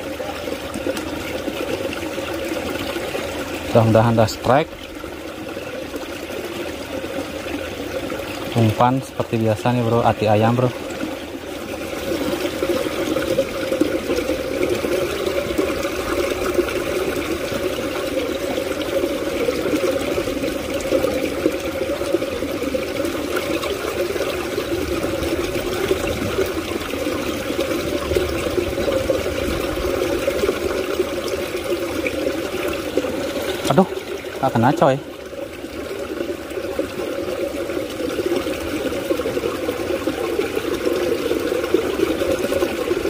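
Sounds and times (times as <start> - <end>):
water pouring into ditch: 0.0 - 43.0.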